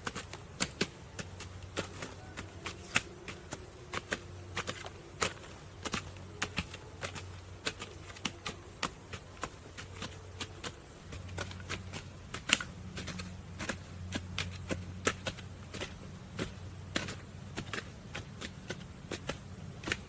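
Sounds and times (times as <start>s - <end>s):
bamboo and wood clicking: 0.0s - 20.0s
steady low hum: 0.0s - 20.0s.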